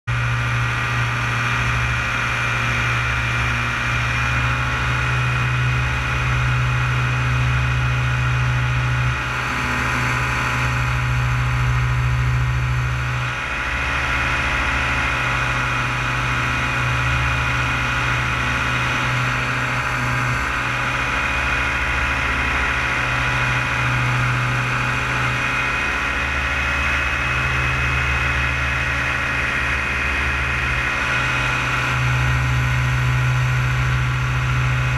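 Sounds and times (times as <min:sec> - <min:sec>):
paramotor engine droning: 0:00.0 - 0:34.9.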